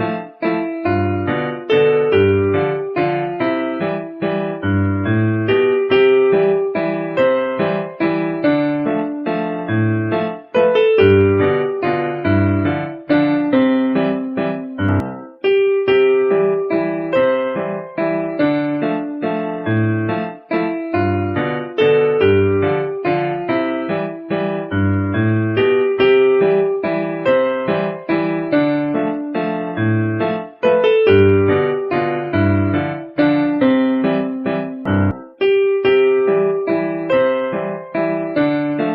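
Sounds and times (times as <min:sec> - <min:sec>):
piano melody: 0:00.0 - 0:38.9.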